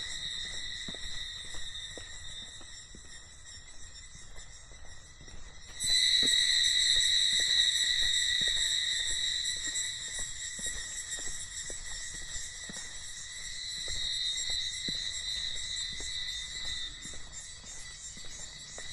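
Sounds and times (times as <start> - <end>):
cicadas buzzing: 0.0 - 18.9.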